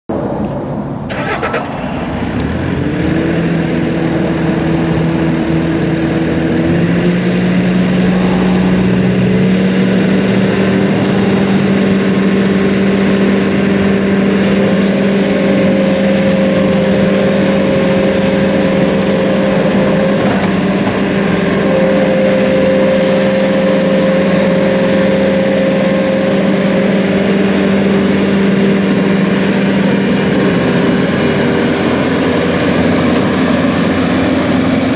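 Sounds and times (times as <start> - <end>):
diesel engine running: 0.1 - 34.9
high steady whine: 3.4 - 34.9.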